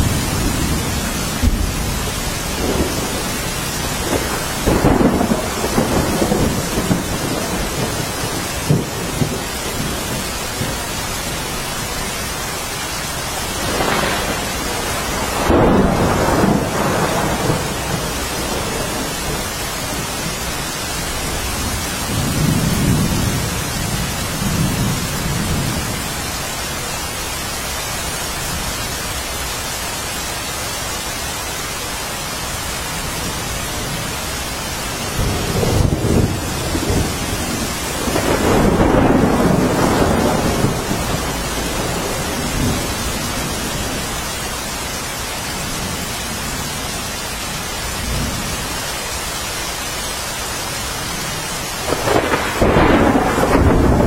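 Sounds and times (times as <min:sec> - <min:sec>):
thunder rumbling: 0:00.0 - 0:26.3, 0:32.9 - 0:48.8, 0:51.1 - 0:54.0
heavy rainfall: 0:00.0 - 0:54.0.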